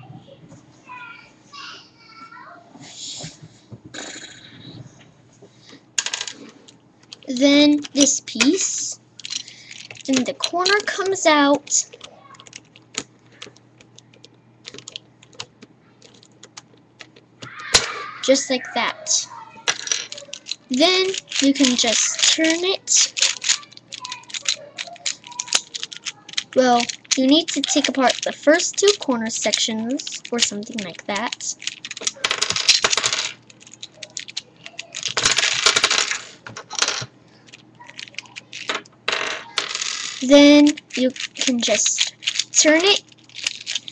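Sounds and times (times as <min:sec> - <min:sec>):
plastic puzzle pieces clicking: 0:06.0 - 0:17.9, 0:19.7 - 0:43.9.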